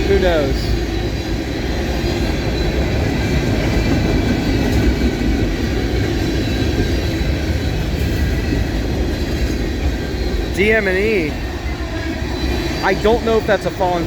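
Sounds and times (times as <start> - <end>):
freight train cars rumbling and rattling: 0.0 - 14.0.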